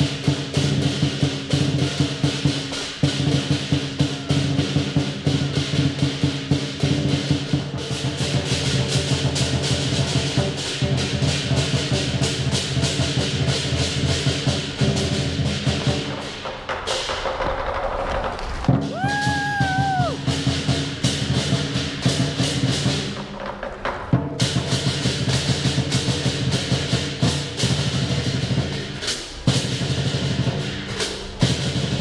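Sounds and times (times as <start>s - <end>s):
big drum beating fast: 0.0s - 32.0s.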